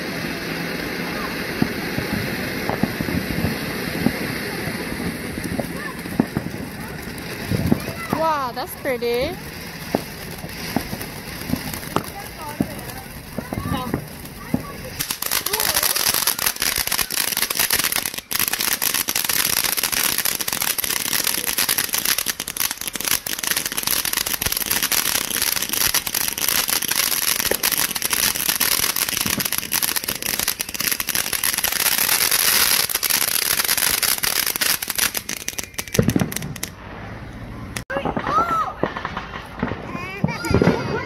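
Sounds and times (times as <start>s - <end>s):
firework fountain hissing crackle: 0.0s - 41.0s.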